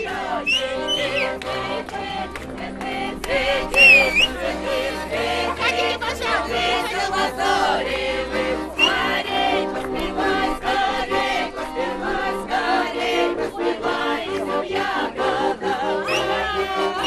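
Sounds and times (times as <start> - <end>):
group singing without instruments: 0.0 - 17.0.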